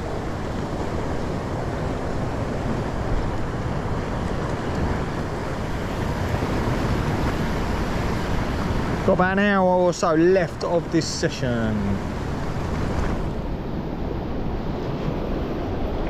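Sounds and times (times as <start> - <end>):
wind on microphone: 0.0 - 9.9, 10.8 - 16.0
sea swell washing against rocks: 0.0 - 16.0.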